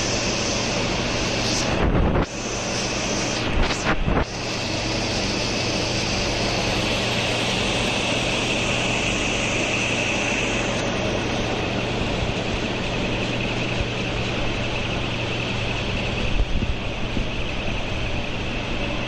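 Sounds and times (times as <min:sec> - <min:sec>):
laser cladding machine hiss: 0:00.0 - 0:19.0
low even hum: 0:00.0 - 0:19.0.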